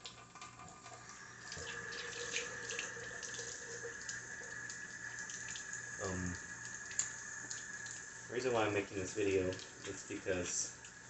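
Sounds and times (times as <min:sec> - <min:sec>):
tap water running: 0:00.0 - 0:11.0.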